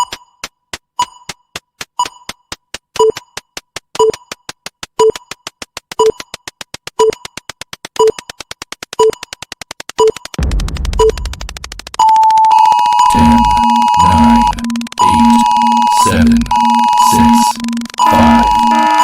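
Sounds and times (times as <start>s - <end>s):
fast ticking clicks: 0.0s - 19.0s
timer beeps: 0.0s - 19.0s.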